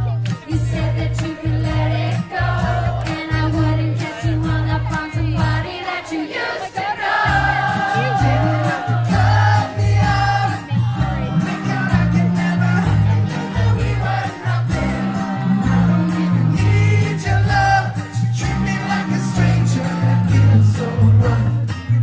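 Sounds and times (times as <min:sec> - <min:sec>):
live band with singing: 0:00.0 - 0:22.0.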